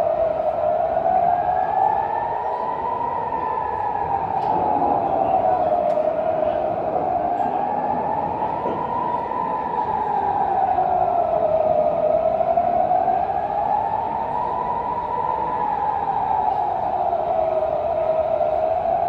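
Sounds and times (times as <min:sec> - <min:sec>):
air-raid siren wailing: 0:00.0 - 0:19.0.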